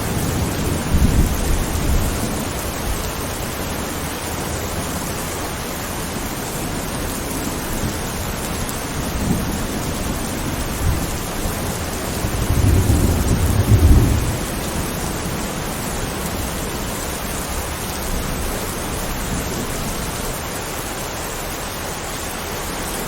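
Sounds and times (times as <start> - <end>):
thunder rumbling: 0.0 - 20.4
heavy rain hissing: 0.0 - 23.0.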